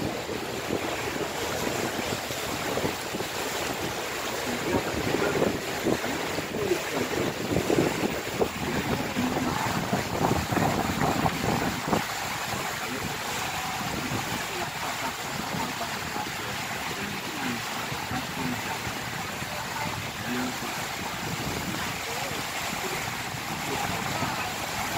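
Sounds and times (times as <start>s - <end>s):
wind noise: 0.0s - 14.6s, 18.1s - 24.9s
water rushing: 0.0s - 24.9s.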